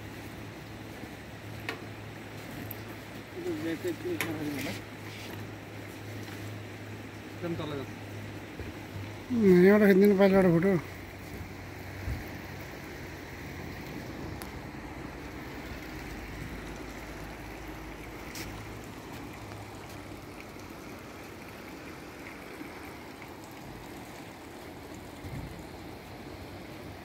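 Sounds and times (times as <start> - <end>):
river rushing over gravel: 0.0 - 27.0.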